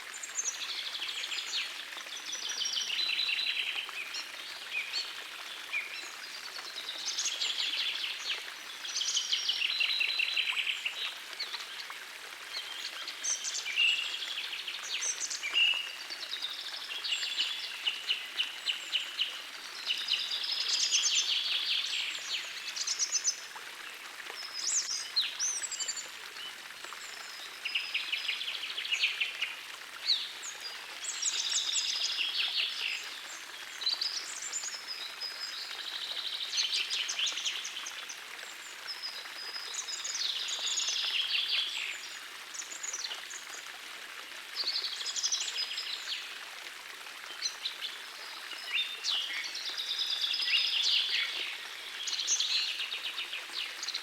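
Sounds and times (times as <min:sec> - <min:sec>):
forest stream hissing: 0:00.0 - 0:54.0.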